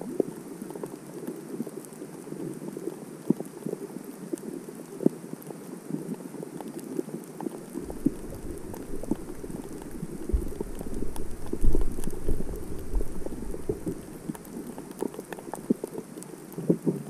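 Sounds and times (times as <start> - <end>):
underwater crackle of clicks: 0.0 - 17.0.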